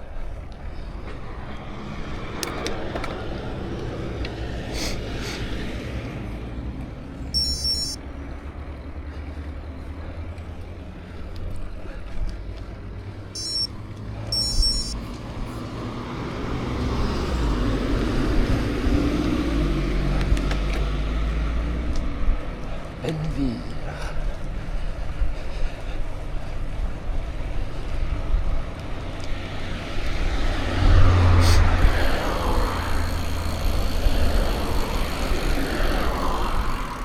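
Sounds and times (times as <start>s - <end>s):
bicycle tyre noise on road: 0.0s - 37.0s
motor vehicle passing: 0.1s - 23.0s, 26.0s - 37.0s.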